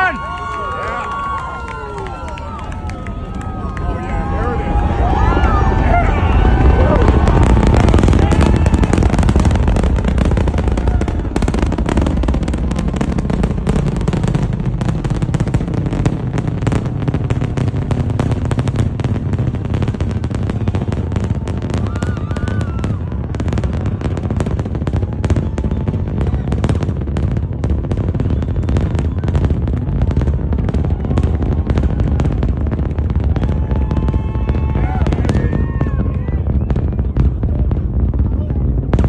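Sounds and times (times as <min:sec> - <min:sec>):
distant rocket rumble and crackle: 0:00.0 - 0:39.0.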